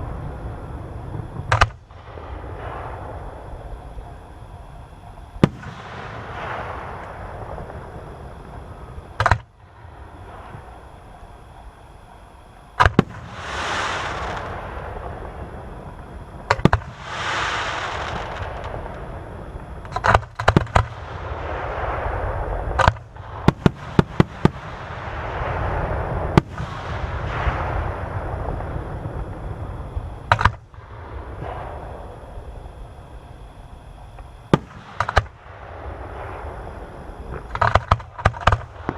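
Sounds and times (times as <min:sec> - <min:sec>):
fireworks bursting with bangs: 0:00.0 - 0:38.9.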